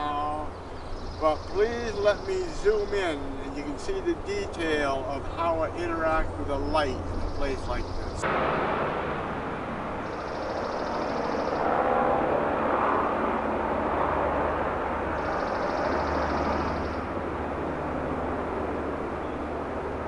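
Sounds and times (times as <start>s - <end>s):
distant traffic: 0.0s - 20.0s.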